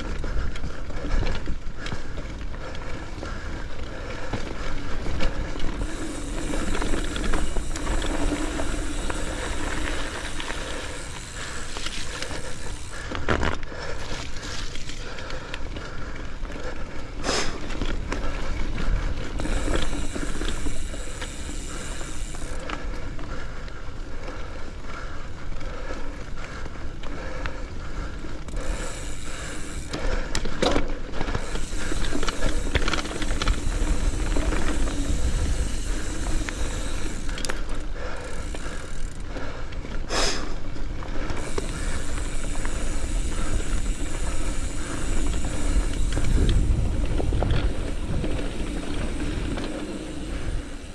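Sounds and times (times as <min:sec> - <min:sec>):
bike tyres rolling on dirt: 0:00.0 - 0:50.9.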